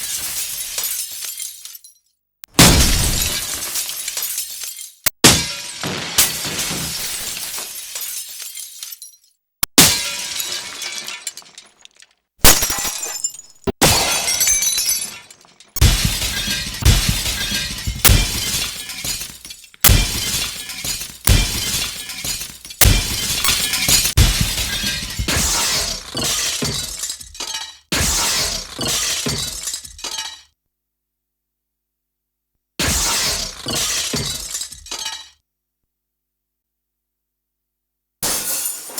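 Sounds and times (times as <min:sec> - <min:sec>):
glass shattering: 0:00.0 - 0:30.5, 0:32.8 - 0:35.4, 0:38.2 - 0:38.9.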